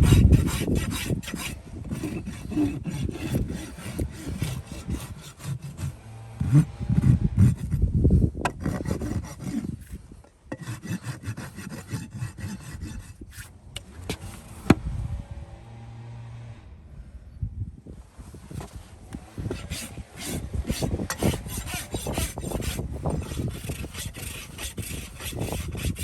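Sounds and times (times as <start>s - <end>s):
rasp filing a hoof: 0.0s - 14.8s, 18.5s - 26.0s.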